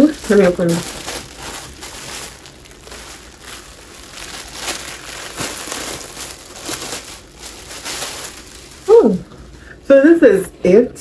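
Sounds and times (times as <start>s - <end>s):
packaging crinkling: 0.0s - 9.5s.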